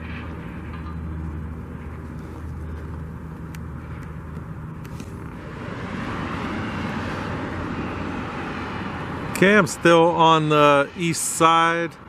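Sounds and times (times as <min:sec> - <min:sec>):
low engine hum: 0:00.0 - 0:12.0
vehicle approaching rushing: 0:00.0 - 0:12.0.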